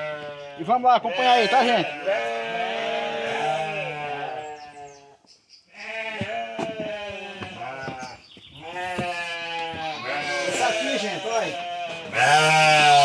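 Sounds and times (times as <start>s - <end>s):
sheep bleating: 0.0s - 5.1s, 5.7s - 13.0s.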